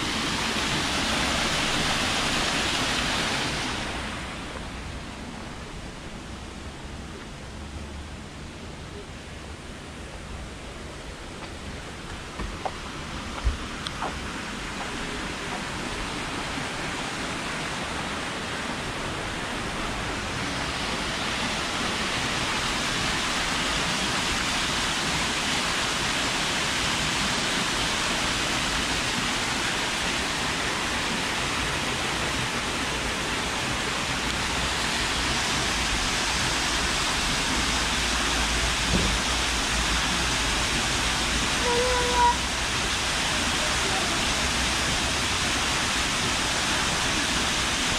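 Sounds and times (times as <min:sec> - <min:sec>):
rain falling: 0:00.0 - 0:08.5, 0:09.8 - 0:47.9.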